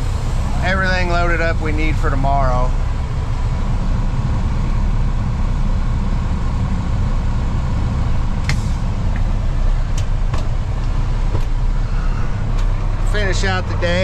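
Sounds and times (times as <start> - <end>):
road noise: 0.0 - 14.0
truck engine rumbling: 0.0 - 14.0.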